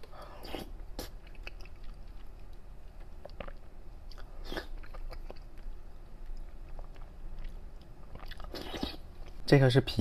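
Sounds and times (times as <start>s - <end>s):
wet chewing and smacking: 0.4s - 9.4s.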